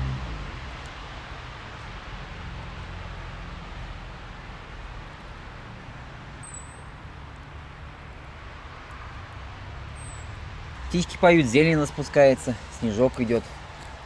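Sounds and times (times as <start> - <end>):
distant traffic: 0.0 - 14.0
wind: 0.0 - 14.0.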